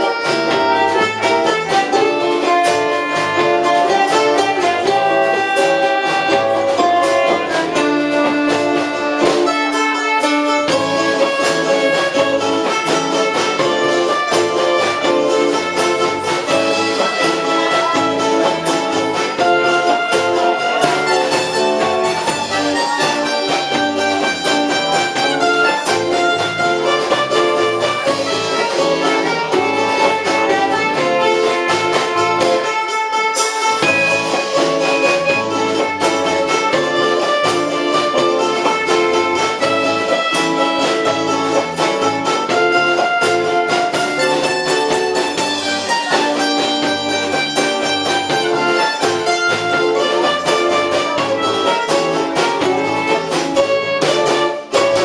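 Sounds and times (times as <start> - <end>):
acoustic and electric guitars: 0.0 - 55.0
bass guitar: 0.0 - 55.0
drums: 0.0 - 55.0
lead string part: 0.0 - 55.0.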